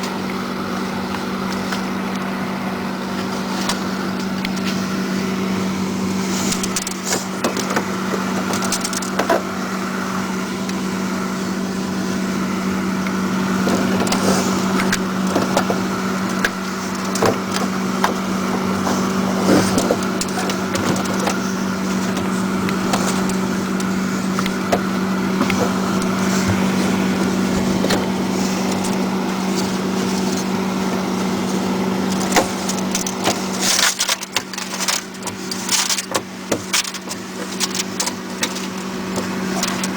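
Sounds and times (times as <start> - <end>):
steady low hum: 0.0 - 39.9
ice crunching and crackling: 3.0 - 39.9
towels scraping ice: 3.2 - 9.9, 11.9 - 39.9.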